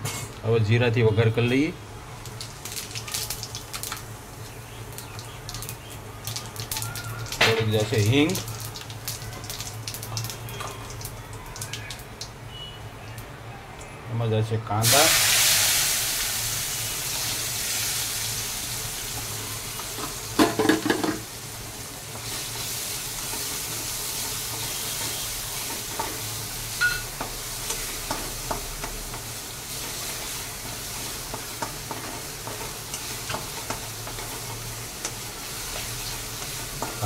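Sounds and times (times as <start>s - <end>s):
onions sizzling in hot oil: 1.8s - 12.5s, 14.8s - 37.0s.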